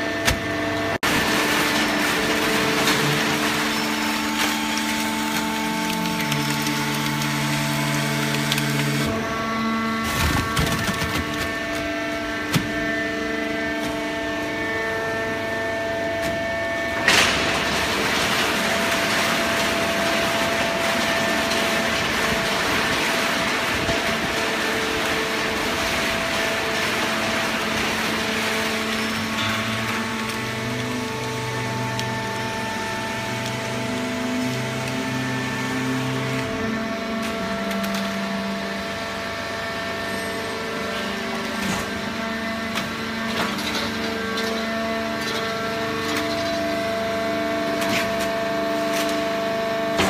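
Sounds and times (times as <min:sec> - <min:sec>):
baling machine humming: 0:00.0 - 0:50.0.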